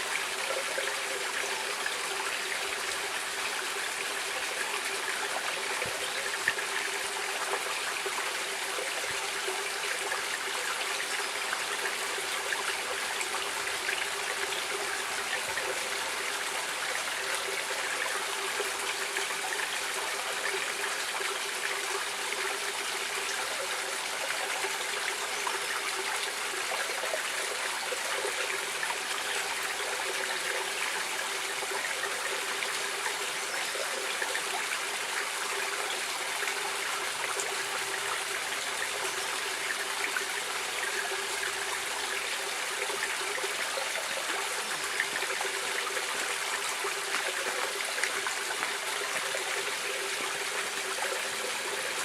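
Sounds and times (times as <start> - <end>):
water flowing: 0.0 - 52.0.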